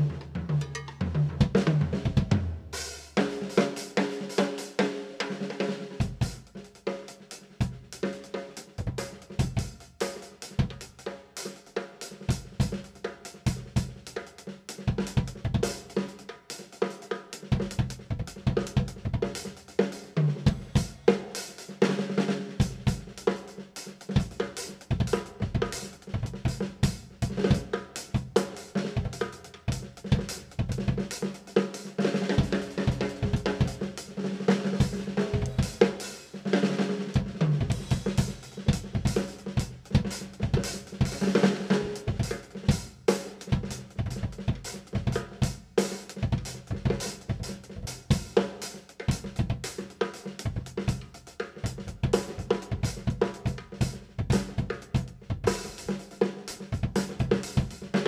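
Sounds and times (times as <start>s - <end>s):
drum kit groove: 0.0s - 58.0s.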